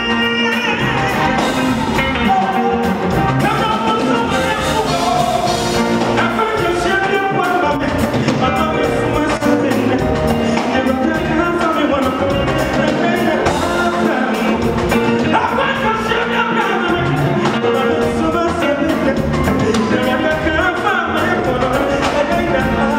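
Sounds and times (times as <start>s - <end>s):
live gospel band: 0.0s - 22.9s
man singing into a microphone: 0.0s - 22.9s.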